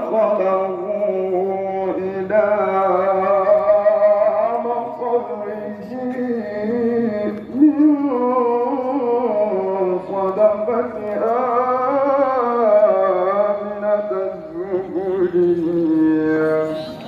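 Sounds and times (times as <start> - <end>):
man chanting melismatically: 0.0 - 17.0.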